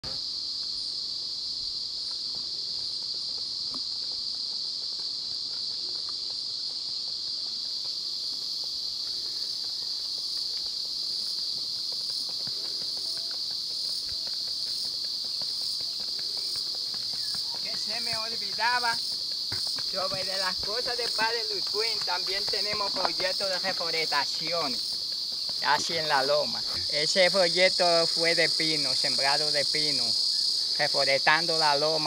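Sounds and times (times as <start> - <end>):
high pulsing insect call: 0.0 - 32.0
shrill insect chorus: 0.0 - 32.0.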